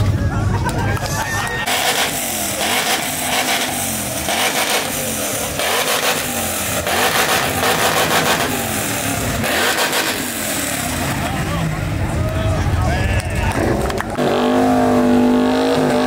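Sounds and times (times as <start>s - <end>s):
car engine revving: 1.6s - 16.0s.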